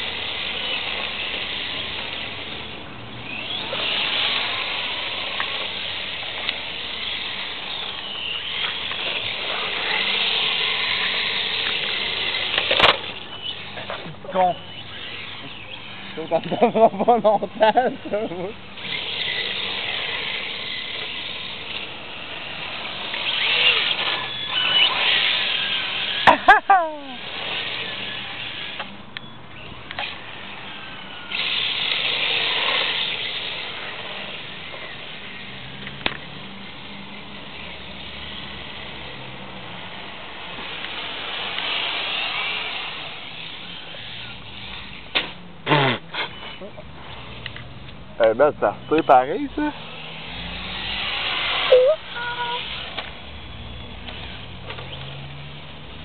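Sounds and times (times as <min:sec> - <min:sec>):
rc car motor whining: 0:00.0 - 0:56.0
tyres hissing on asphalt: 0:00.0 - 0:56.0.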